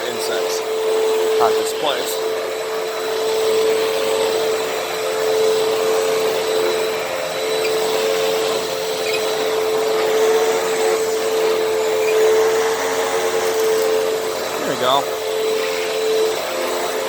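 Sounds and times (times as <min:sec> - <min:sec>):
vacuum cleaner motor whine: 0:00.0 - 0:17.0.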